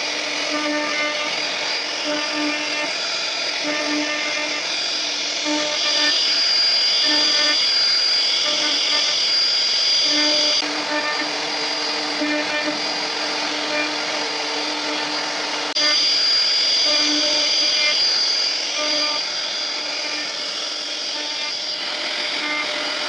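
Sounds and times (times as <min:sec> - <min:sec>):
cnc router spindle whine: 0:00.0 - 0:23.0
motor tones: 0:00.0 - 0:23.0.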